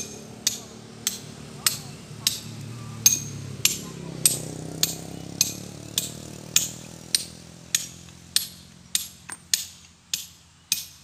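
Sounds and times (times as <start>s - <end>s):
hammer striking steel: 0.0s - 11.0s.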